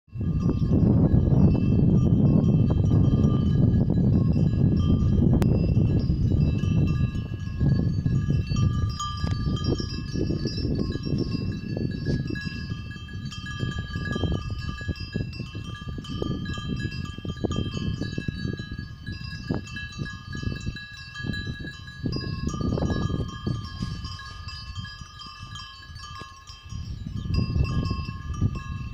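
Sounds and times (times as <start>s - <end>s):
cow bells ringing: 0.1s - 28.9s
wind rumble on microphone: 0.1s - 28.9s.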